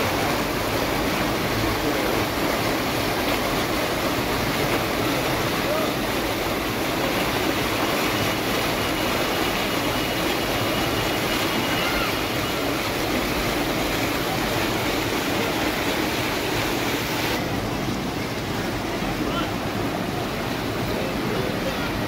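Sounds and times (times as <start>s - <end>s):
water rushing along stone channel: 0.0s - 22.0s.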